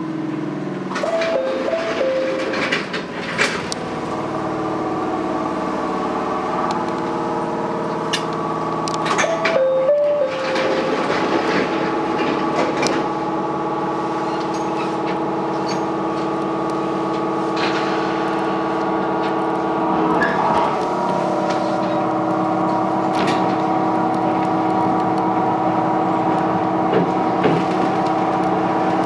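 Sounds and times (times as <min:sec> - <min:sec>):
electric train humming: 0:00.0 - 0:29.0.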